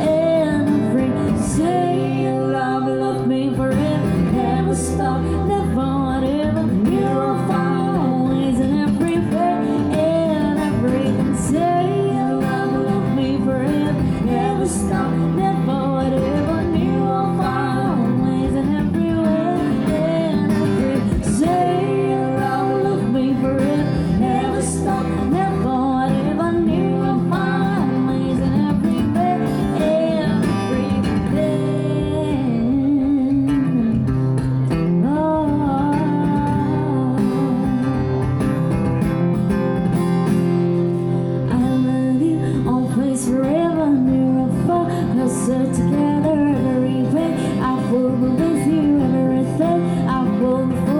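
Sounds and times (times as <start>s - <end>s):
person singing: 0.0s - 38.1s, 41.4s - 50.9s
acoustic guitar strumming: 0.0s - 50.9s.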